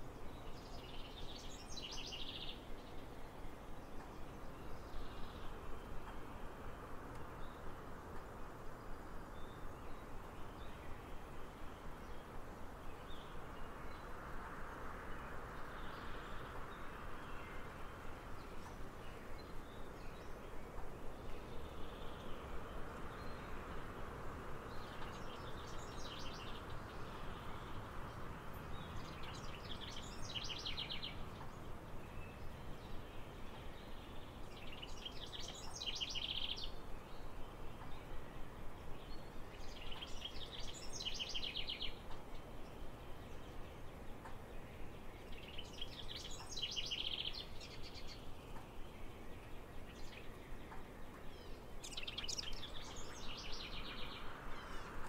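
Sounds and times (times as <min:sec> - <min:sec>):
songbird singing trills: 0:00.0 - 0:55.0
steady background hiss: 0:00.0 - 0:55.0.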